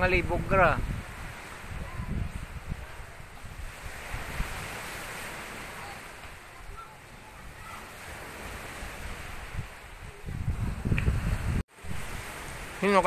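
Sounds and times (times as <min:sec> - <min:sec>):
steady rushing outdoor noise: 0:00.0 - 0:13.0
wind buffeting microphone: 0:00.0 - 0:13.0.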